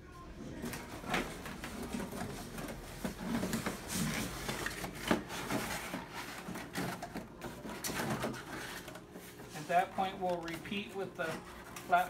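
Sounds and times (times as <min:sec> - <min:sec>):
cardboard scraping and rustling: 0:00.6 - 0:12.0.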